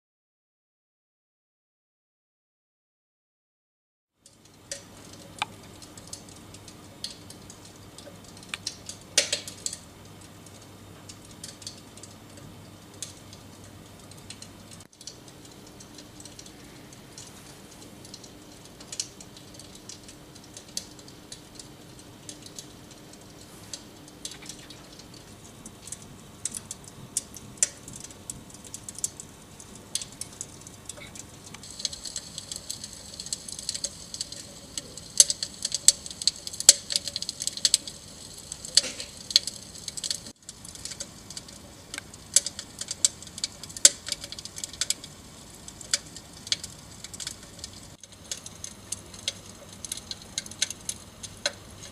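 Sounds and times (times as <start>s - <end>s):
electric fireplace crackles and pops: 4.2s - 51.9s.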